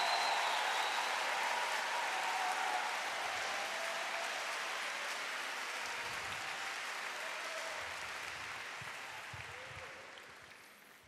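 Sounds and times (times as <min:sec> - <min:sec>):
crowd applause: 0:00.0 - 0:11.0.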